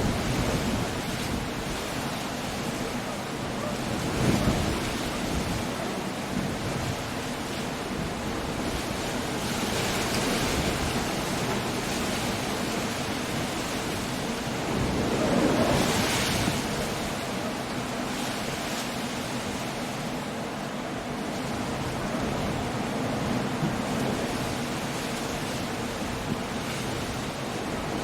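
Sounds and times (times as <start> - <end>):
storm surf breaking: 0.0 - 28.0
wind: 0.0 - 28.0.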